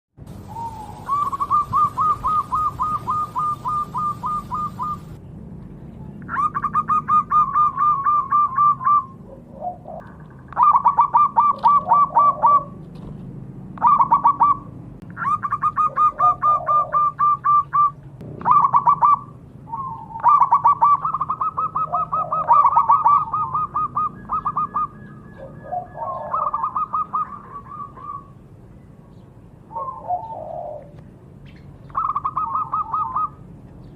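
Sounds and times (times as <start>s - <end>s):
dove cooing: 0.4s - 5.2s, 6.3s - 13.0s, 13.8s - 28.4s, 29.7s - 31.0s, 31.9s - 33.4s.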